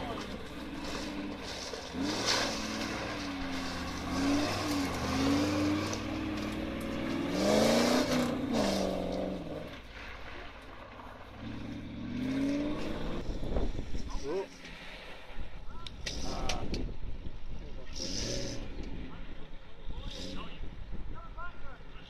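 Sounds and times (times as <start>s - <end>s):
off-road engine revving: 0.0s - 15.4s, 16.0s - 16.8s, 17.7s - 20.9s.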